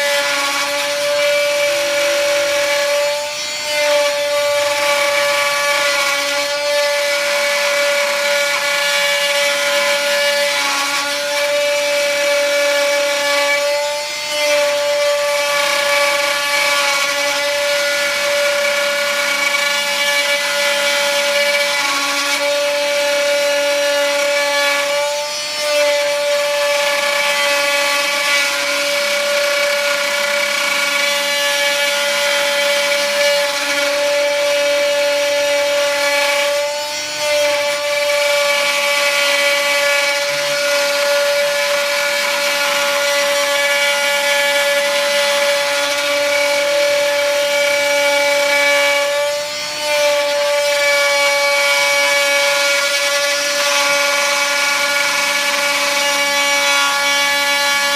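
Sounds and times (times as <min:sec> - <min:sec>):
bit rasping through wood: 0:00.0 - 0:57.9
router spindle whining: 0:00.0 - 0:57.9.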